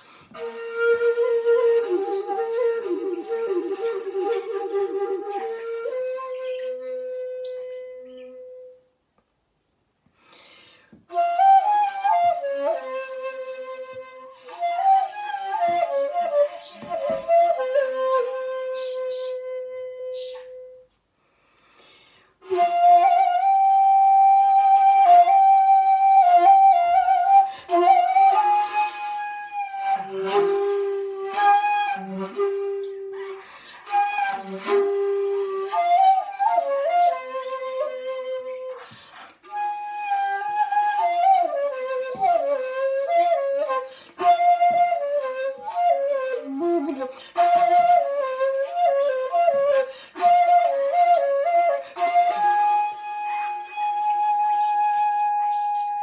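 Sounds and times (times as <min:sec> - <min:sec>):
bamboo flute solo: 0:00.0 - 0:09.0, 0:11.0 - 0:21.0, 0:22.4 - 0:56.0.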